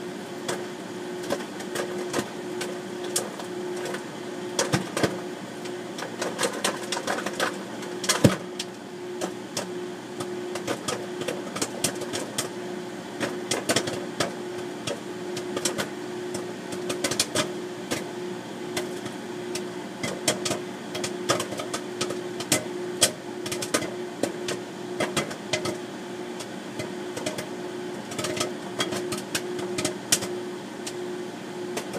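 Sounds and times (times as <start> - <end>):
microwave oven humming: 0.0 - 31.9
popcorn popping: 0.0 - 31.9.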